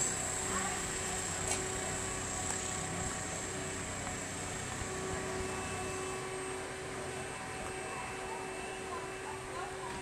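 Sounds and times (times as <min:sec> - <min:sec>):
distant engine droning: 0:00.0 - 0:10.0.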